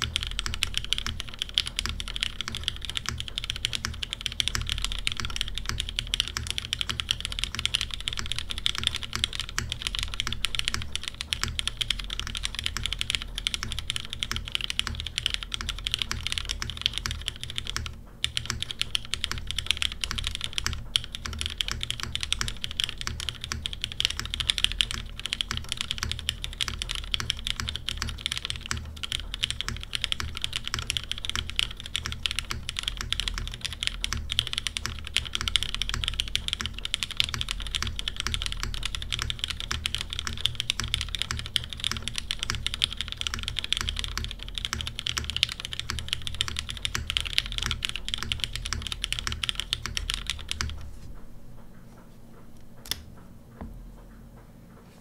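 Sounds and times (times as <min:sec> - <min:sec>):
fast mechanical keyboard typing: 0:00.0 - 0:50.9.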